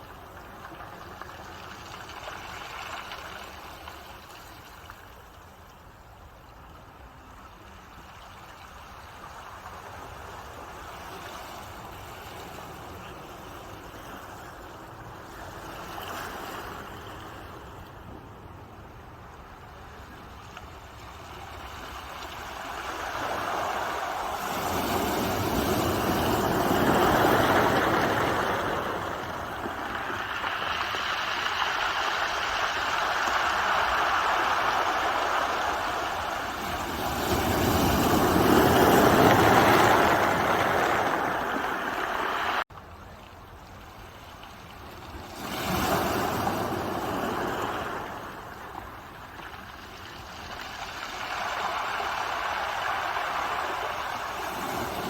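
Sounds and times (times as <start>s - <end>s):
ocean waves breaking on shore: 7.1s - 42.7s, 43.7s - 55.0s.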